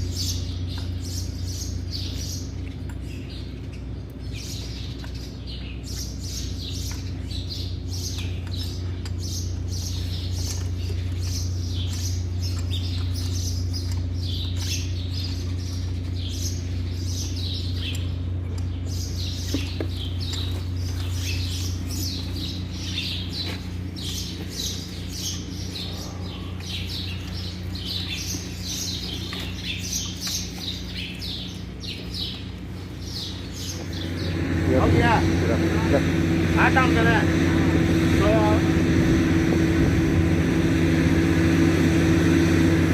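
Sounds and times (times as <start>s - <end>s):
low machine hum: 0.0s - 42.9s
small birds chirping: 0.0s - 42.9s.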